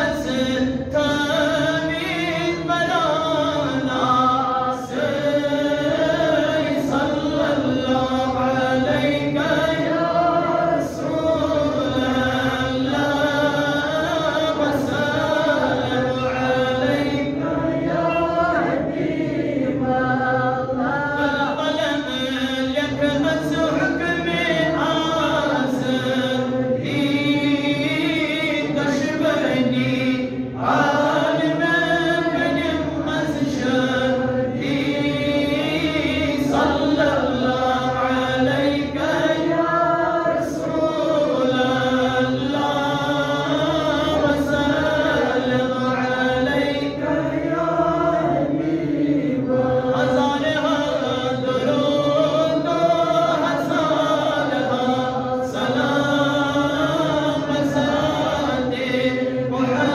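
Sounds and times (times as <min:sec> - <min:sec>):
man chanting: 0:00.0 - 0:59.9.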